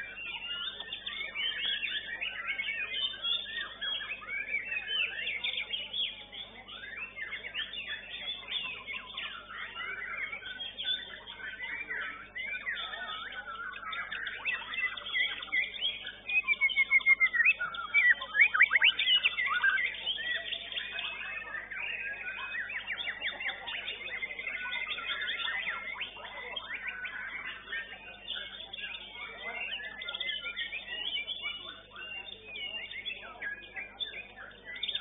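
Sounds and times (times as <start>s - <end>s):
songbird whistles and chirps: 0.0s - 35.0s.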